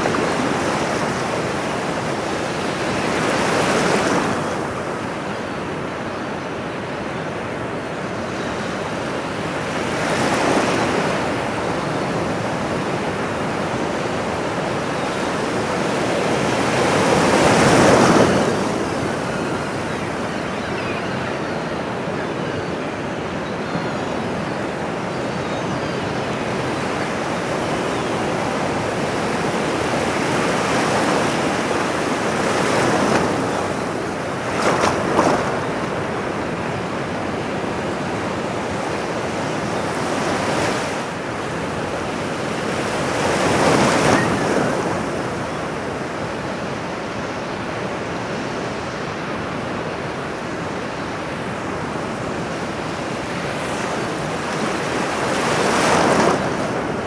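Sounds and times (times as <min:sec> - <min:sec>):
ocean waves washing ashore: 0:00.0 - 0:57.0.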